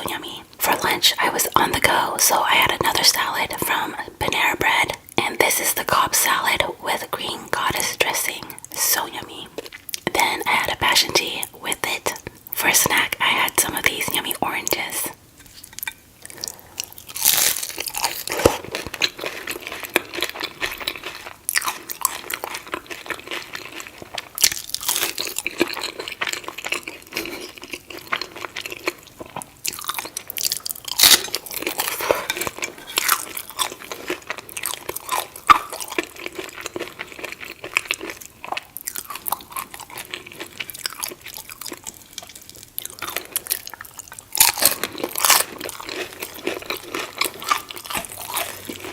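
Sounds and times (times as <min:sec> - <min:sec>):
crunching and chewing food: 0:00.0 - 0:48.9.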